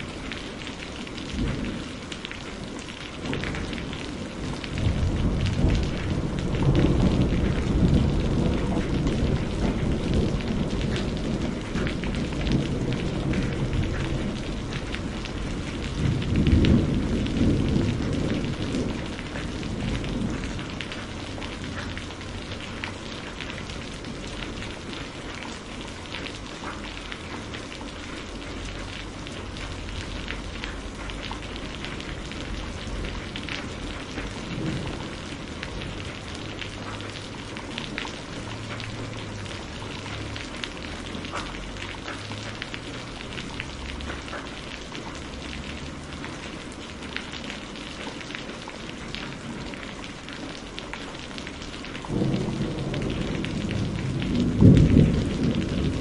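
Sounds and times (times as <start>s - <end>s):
raindrops ticking: 0.0s - 56.0s
steady rain falling: 0.0s - 56.0s.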